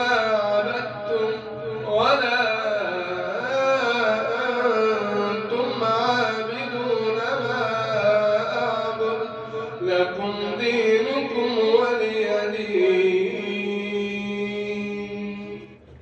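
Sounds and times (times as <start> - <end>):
man chanting recitation: 0.0 - 15.9.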